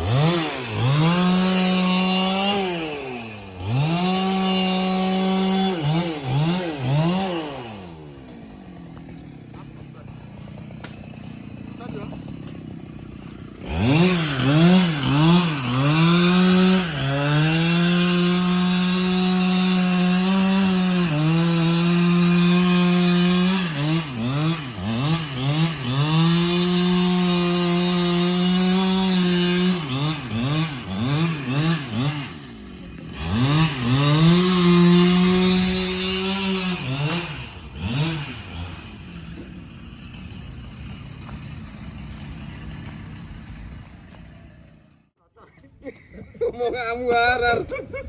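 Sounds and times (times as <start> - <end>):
chainsaw revving and cutting wood: 0.0 - 45.2.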